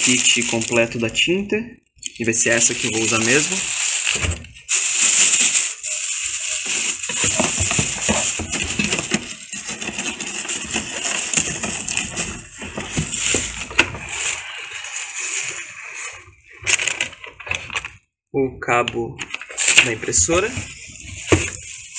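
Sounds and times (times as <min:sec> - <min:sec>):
plastic wrapping crinkling: 0:00.0 - 0:01.4, 0:02.1 - 0:18.0, 0:19.3 - 0:21.9.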